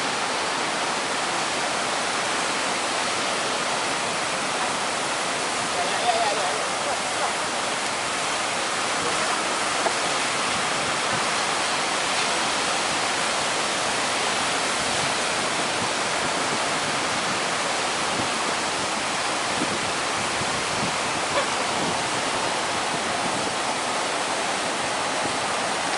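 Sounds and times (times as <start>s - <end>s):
heavy surf on a beach: 0.0s - 25.9s
strong wind: 0.0s - 25.9s.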